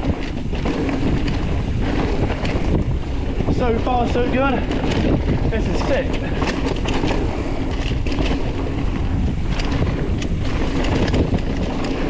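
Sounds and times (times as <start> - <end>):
bike clicks and rattles: 0.0 - 12.0
tyres rumbling on dirt trail: 0.0 - 12.0
wind buffeting microphone: 0.0 - 12.0.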